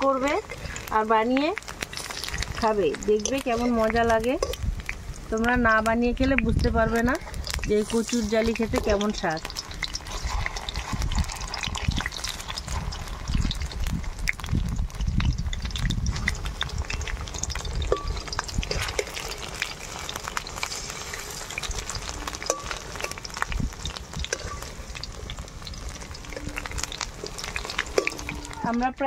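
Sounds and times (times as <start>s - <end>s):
spatula scraping a wok: 0.0s - 1.1s, 1.7s - 4.9s, 6.8s - 15.1s, 15.7s - 29.0s
fritters sizzling in hot oil: 0.0s - 29.0s.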